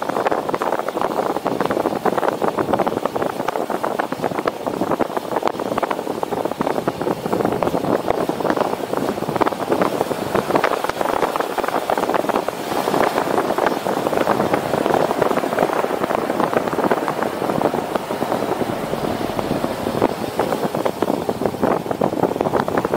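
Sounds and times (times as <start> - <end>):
wind buffeting microphone: 0.0 - 22.9
car road noise: 0.1 - 22.9.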